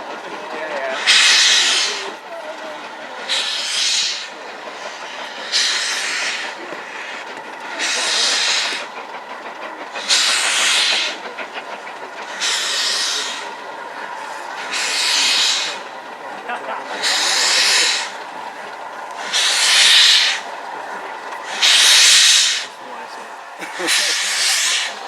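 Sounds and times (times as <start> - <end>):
steam locomotive chuffing: 0.0 - 25.0
train rumbling: 0.0 - 25.0.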